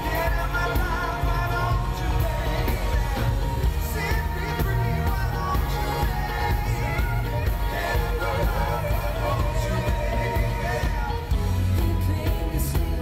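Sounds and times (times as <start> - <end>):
live pop band: 0.0 - 13.0
male vocal group singing: 0.0 - 13.0.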